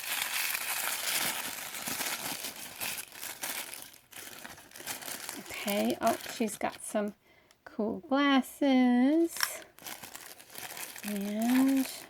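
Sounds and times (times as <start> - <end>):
plastic packaging crinkling: 0.0 - 7.1, 9.3 - 12.0.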